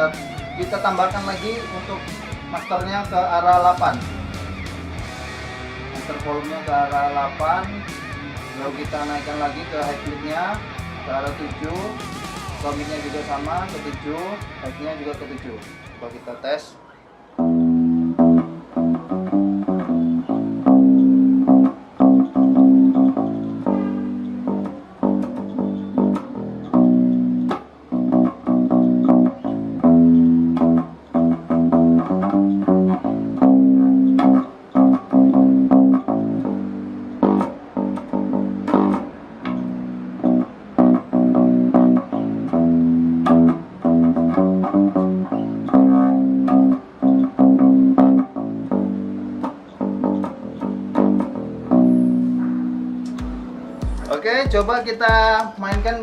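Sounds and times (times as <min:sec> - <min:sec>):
electric bass guitar plucked notes: 0:00.0 - 0:16.2, 0:17.4 - 0:56.0.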